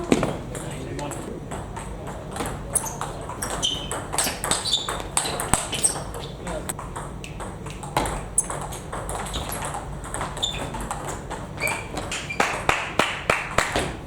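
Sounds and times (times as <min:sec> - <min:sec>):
table tennis ball clicking: 0:00.1 - 0:12.7.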